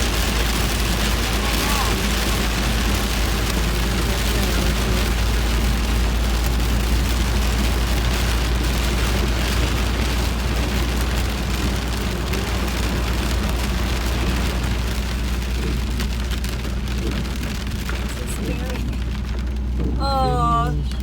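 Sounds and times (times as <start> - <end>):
car low rumble: 0.0 - 21.0
rain and hail drumming on a car: 0.0 - 21.0.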